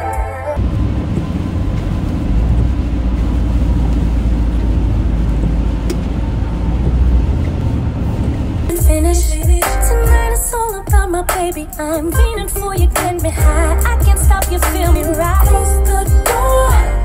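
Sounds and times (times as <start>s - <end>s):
car cabin rumble: 0.6s - 17.0s.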